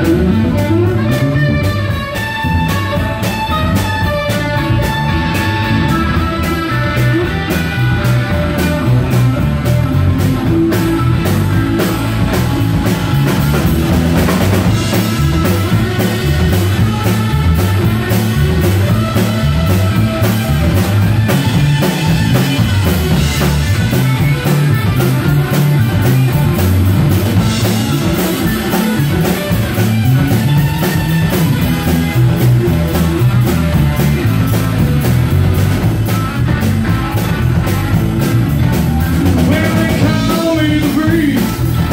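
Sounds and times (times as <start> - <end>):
drum kit beat: 0.0 - 41.9
electric bass: 0.0 - 41.9
electric guitar: 0.0 - 41.9.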